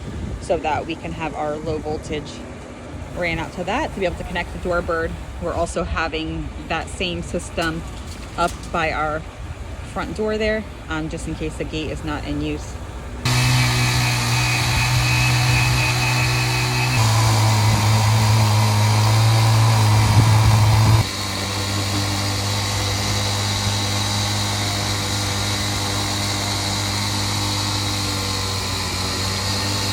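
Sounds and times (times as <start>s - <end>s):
engine running with low hum: 0.0s - 29.9s.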